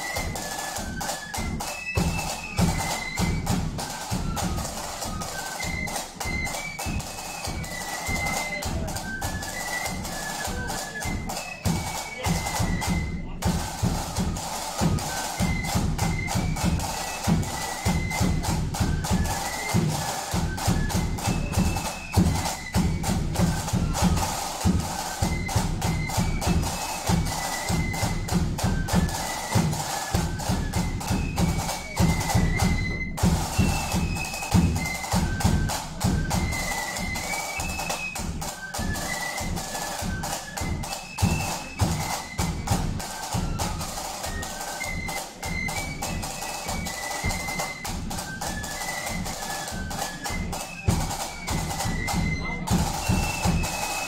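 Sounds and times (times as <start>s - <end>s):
flutes playing melody: 0.0s - 54.0s
side drums beating: 0.0s - 54.0s.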